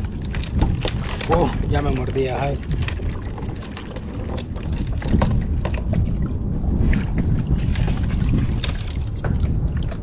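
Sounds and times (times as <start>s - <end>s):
paddle splashing in water: 0.0s - 10.0s
wind rumbling on microphone: 0.0s - 10.0s.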